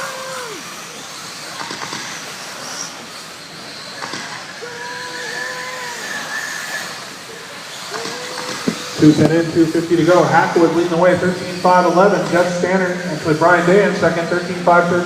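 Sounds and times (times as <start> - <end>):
rc truck motors whining: 0.0 - 14.9.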